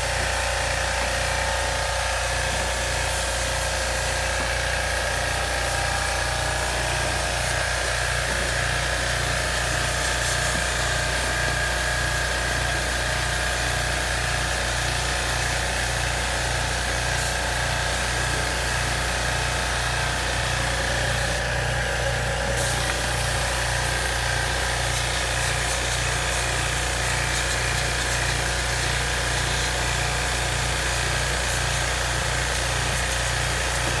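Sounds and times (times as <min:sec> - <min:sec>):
pump motor pulsing: 0:00.0 - 0:34.0.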